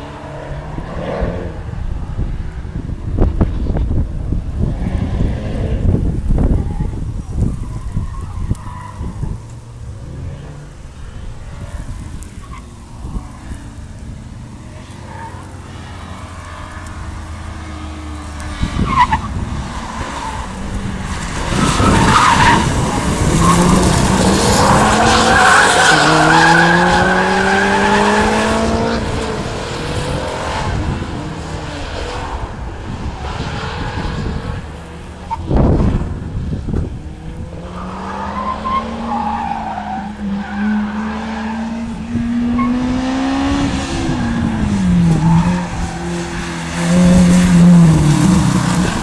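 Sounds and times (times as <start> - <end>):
wind rumble on microphone: 0.4 - 37.8, 41.8 - 49.0
car engine revving: 9.0 - 49.0.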